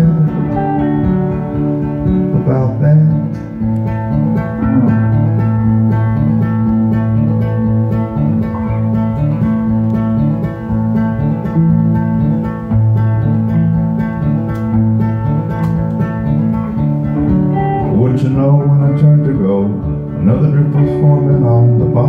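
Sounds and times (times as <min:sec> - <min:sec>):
acoustic and electric guitars playing: 0:00.0 - 0:22.0.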